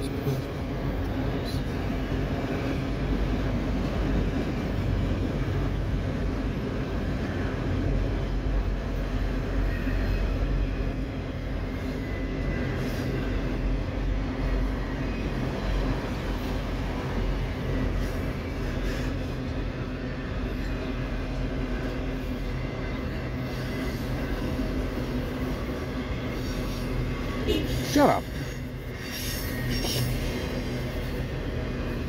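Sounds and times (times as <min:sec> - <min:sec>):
steel wheels running on rails: 0:00.0 - 0:32.0.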